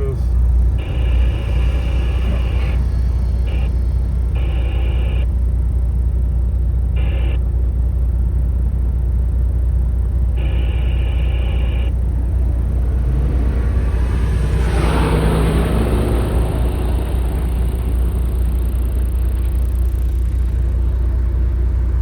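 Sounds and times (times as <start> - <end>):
high whine: 0.0 - 22.0
truck engine drone: 0.0 - 22.0.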